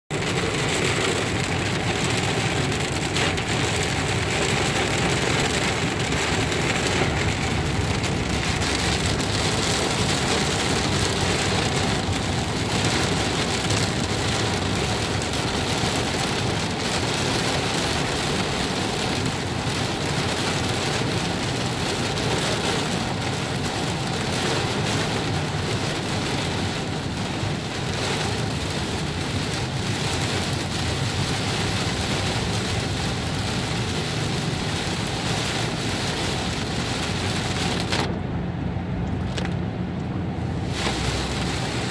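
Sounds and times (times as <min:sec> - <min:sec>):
heavy rain on car roof: 0:00.1 - 0:41.9.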